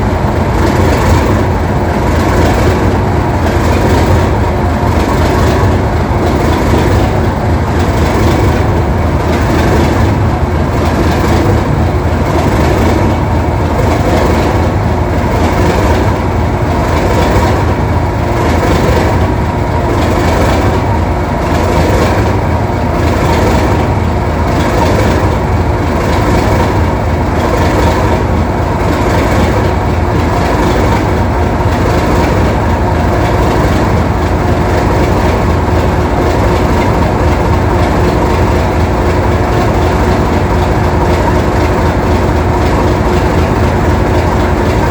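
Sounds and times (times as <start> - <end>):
diesel locomotive engine rumbling: 0.0 - 44.9.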